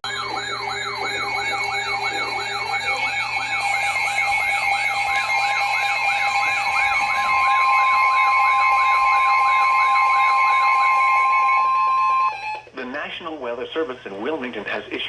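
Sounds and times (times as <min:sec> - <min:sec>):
electronic yelp siren: 0:00.0 - 0:12.7
steady high alert tone: 0:00.0 - 0:12.7.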